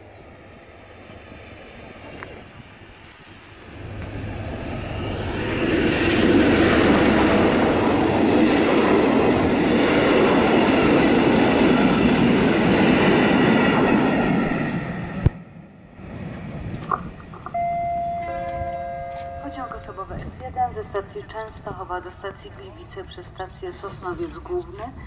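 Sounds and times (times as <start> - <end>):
diesel locomotive engine drone: 0.0 - 25.0
train wheels on rails: 0.0 - 25.0.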